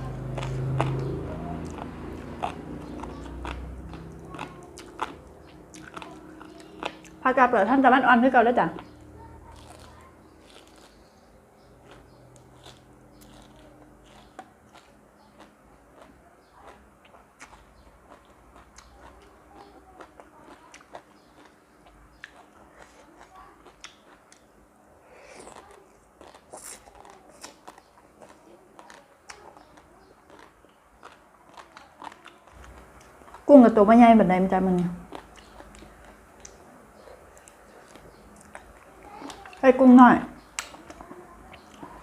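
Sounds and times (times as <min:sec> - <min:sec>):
chewing crisp food: 0:00.0 - 0:07.4, 0:08.7 - 0:33.8, 0:34.6 - 0:39.6, 0:40.4 - 0:42.0.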